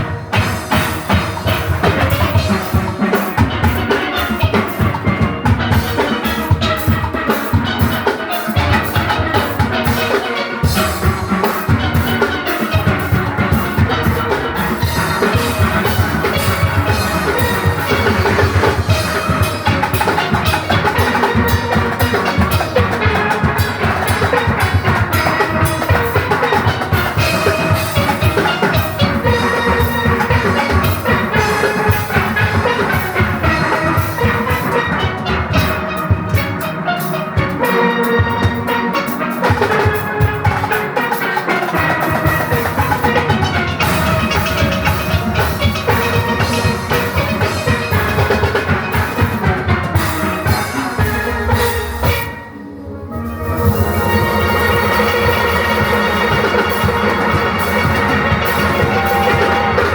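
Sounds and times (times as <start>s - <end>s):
drum kit beat: 0.0s - 59.9s
steelpans playing fast melody: 0.0s - 59.9s.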